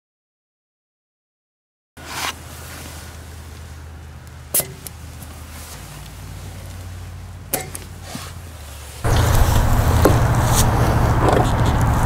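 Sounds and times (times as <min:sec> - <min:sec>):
steady low hum: 0:02.3 - 0:12.0.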